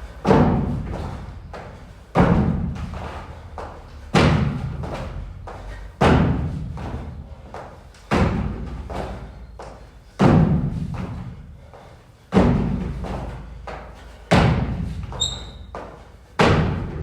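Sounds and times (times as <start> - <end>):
heavy gym thuds: 0.0 - 11.7, 12.3 - 17.0.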